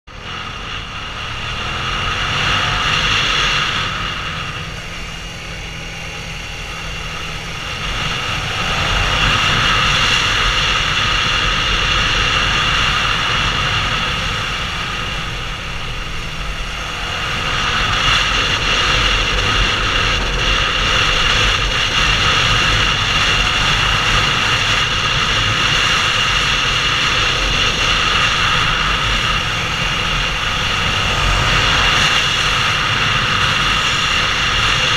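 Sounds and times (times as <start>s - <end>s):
motorcycle engine running: 0.0s - 34.9s
wind rushing over microphone: 0.1s - 34.9s.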